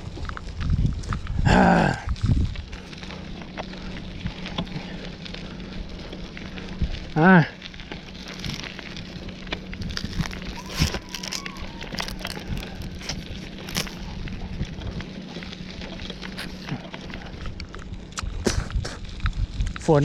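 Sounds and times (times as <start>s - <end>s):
bicycle clicks and crackles: 0.0s - 20.0s.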